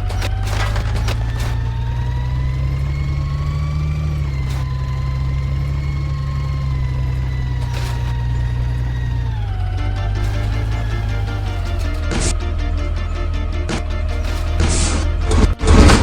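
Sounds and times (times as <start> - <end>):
mechanical whine: 0.0 - 16.0
truck engine running: 0.0 - 16.0.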